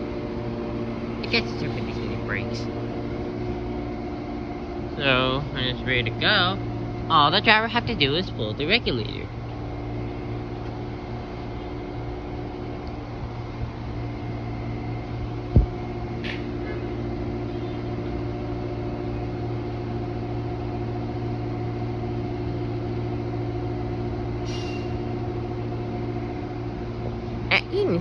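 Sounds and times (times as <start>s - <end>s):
idling train hum: 0.0s - 28.0s.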